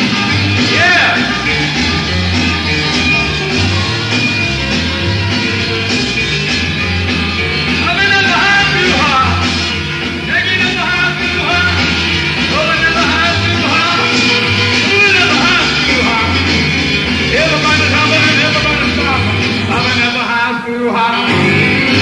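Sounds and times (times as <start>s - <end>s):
live rock band music: 0.0s - 22.0s.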